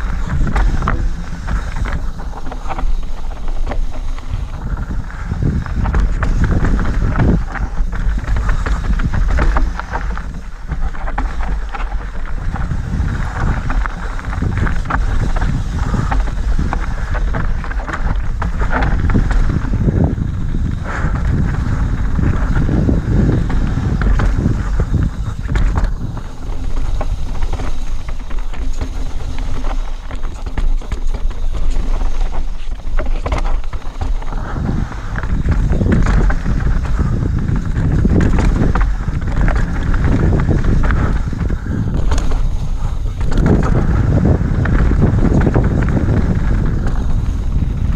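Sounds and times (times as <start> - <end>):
bike rattling and clattering: 0.0 - 47.9
bike tyres on dirt and stones: 0.0 - 47.9
wind noise on microphone: 0.0 - 47.9.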